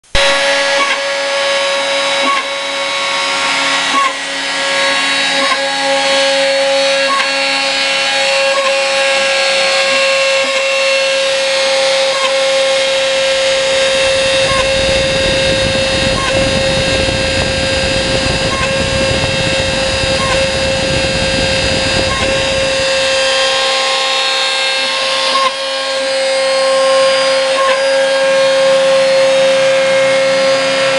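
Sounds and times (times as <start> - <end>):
rough low grinding: 0.0 - 26.5
engraving machine motor whine: 0.0 - 30.9.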